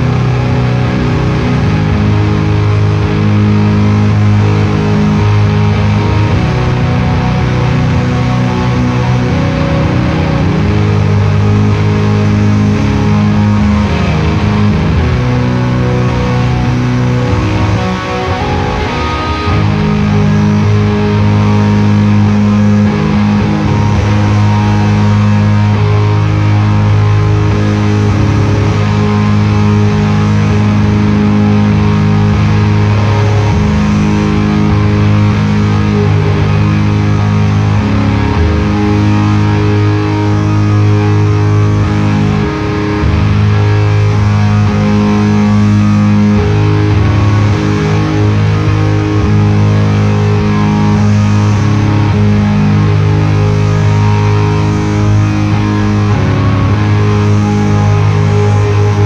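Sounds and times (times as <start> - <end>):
electric guitar chords: 0.0 - 59.0
organ chords: 0.0 - 59.0.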